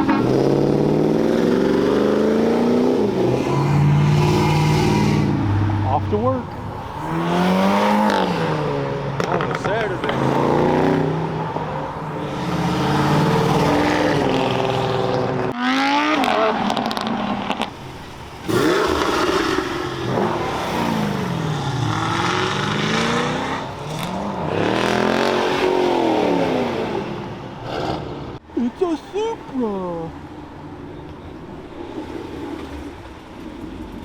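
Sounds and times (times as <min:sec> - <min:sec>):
car engine sharp rev: 0:00.0 - 0:28.4
cars accelerating away: 0:00.0 - 0:28.4.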